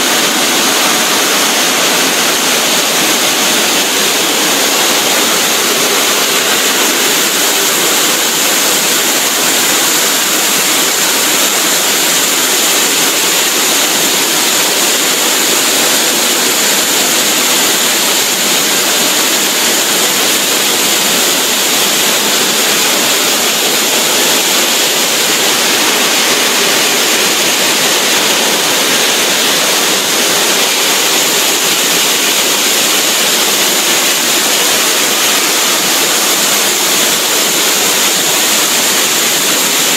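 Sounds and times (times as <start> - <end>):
circular saw cutting stone: 0.0 - 39.9.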